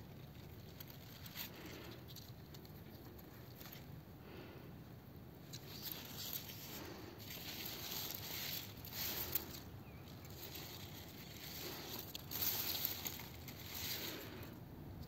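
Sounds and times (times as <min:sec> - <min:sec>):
faint rustling and handling: 0:00.0 - 0:04.6, 0:05.4 - 0:15.0.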